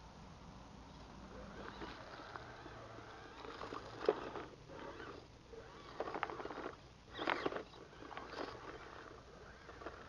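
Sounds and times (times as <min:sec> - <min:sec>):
toy car scraping over rocks: 0:01.3 - 0:10.0.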